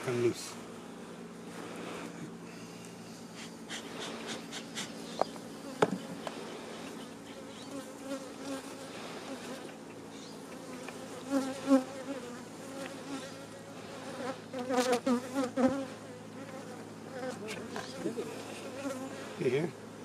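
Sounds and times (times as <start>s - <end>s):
honeybees buzzing: 3.0s - 20.0s.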